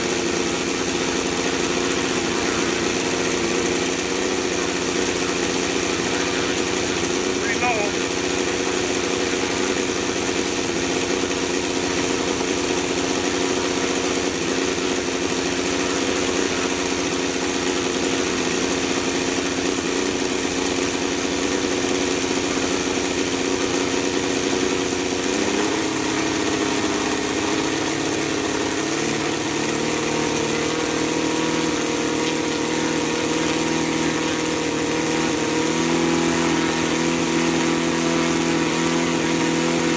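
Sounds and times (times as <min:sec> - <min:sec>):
radial engine running: 0:00.0 - 0:39.9.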